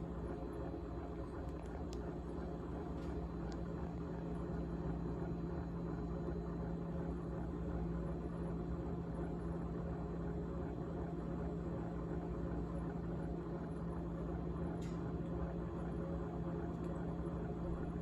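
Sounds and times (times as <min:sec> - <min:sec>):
refrigerator hum and rattle: 0:00.0 - 0:18.0.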